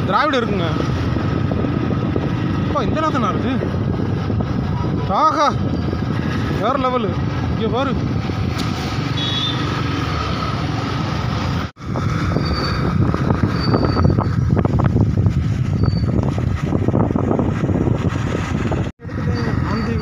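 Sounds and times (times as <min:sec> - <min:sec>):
motorcycle engine and road rumble: 0:00.0 - 0:20.0
wind rushing over microphone: 0:00.0 - 0:20.0.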